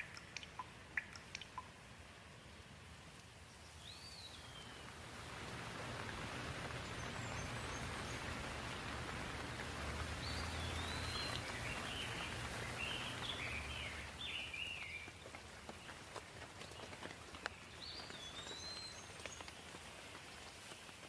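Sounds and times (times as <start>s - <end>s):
bird chirping: 0.0s - 2.7s, 3.4s - 5.0s, 6.6s - 19.8s
rain falling: 0.0s - 21.0s.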